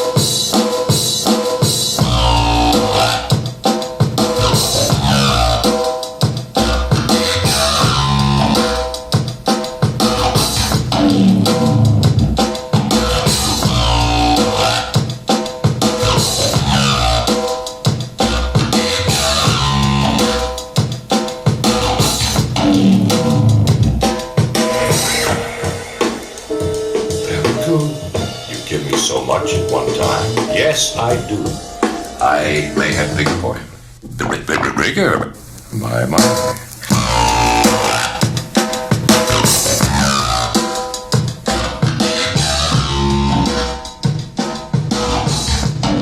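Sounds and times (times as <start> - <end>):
rock music over loudspeakers: 0.0 - 33.6, 36.1 - 46.0
drum kit beat: 0.0 - 34.2, 35.4 - 46.0.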